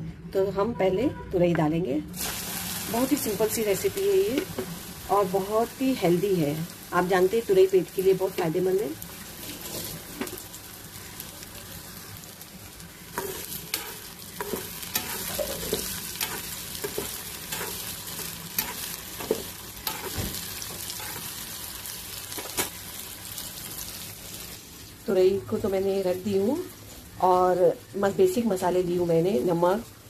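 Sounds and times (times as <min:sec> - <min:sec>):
vegetables sizzling in oil: 0:02.1 - 0:30.0.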